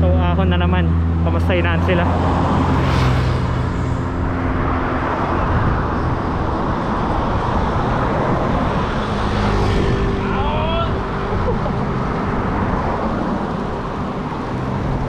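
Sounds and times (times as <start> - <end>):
motor traffic passing: 0.0 - 15.0
vehicle engine hum: 0.0 - 15.0
wind on microphone: 2.1 - 15.0.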